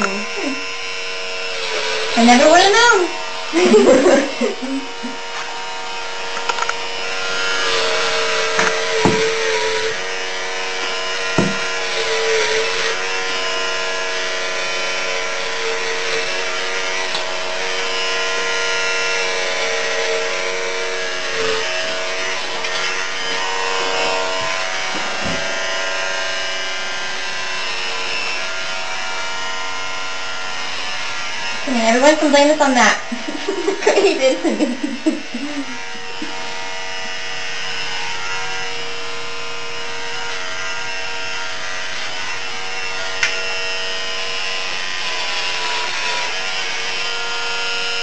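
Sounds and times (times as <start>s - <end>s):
electric hair clippers buzzing: 0.0s - 48.0s.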